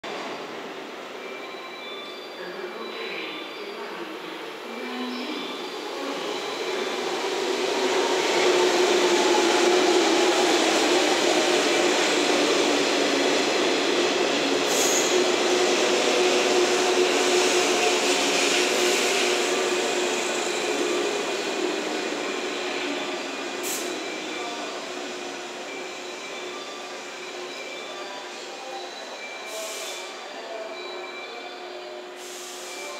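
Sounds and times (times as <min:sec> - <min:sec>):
electric train pulling in: 0:03.6 - 0:32.9.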